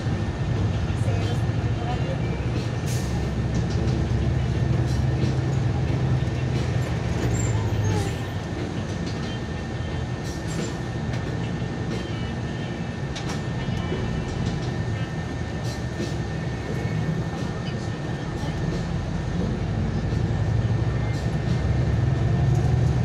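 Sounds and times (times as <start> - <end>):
vehicle running low rumble: 0.0 - 23.0.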